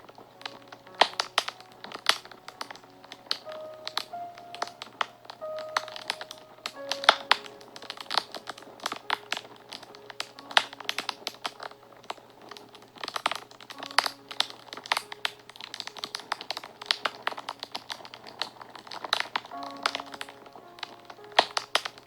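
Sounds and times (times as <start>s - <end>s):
fire crackling and popping: 0.0s - 22.0s
soft background music: 0.0s - 22.0s.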